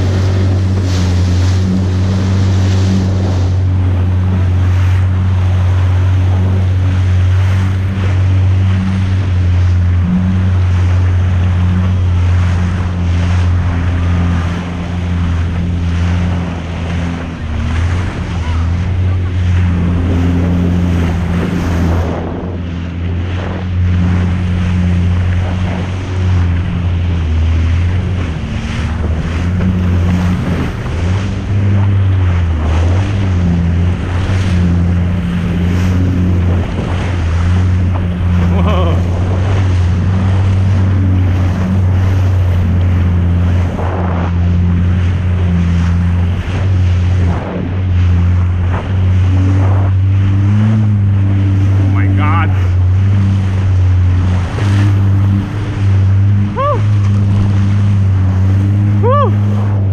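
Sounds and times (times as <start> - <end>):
jet ski engine drone: 0.0 - 59.9
spray and wind rush: 0.0 - 59.9.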